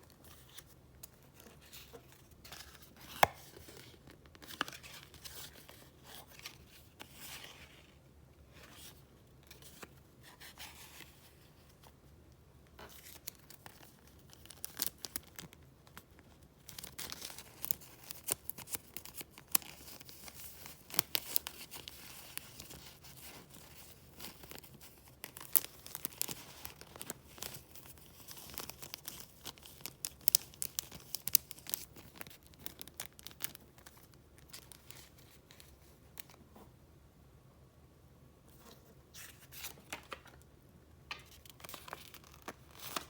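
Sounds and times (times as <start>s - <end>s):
paper rustling and crinkling: 0.0s - 11.9s, 16.7s - 36.7s, 38.6s - 40.4s, 41.1s - 43.0s.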